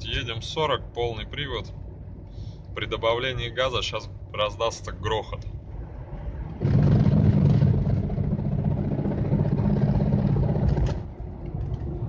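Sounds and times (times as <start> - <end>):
vehicle engine and drivetrain noise: 0.0 - 12.0.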